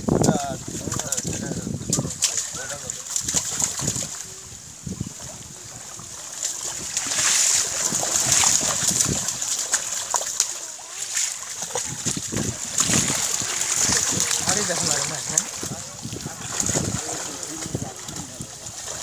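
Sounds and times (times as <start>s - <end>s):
fish splashing in water: 0.0s - 19.0s.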